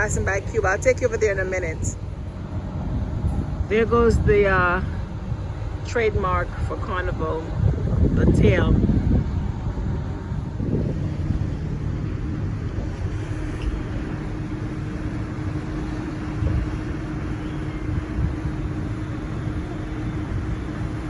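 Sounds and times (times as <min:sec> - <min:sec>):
machinery hum: 0:00.0 - 0:21.0
ship rumble: 0:00.0 - 0:21.0.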